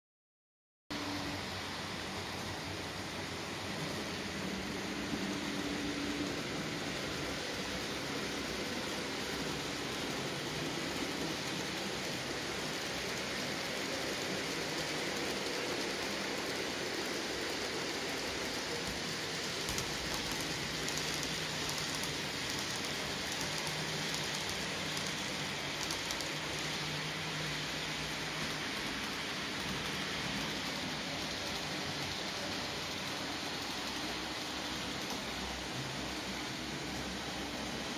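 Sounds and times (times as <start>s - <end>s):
model train rattling on track: 1.0s - 37.9s.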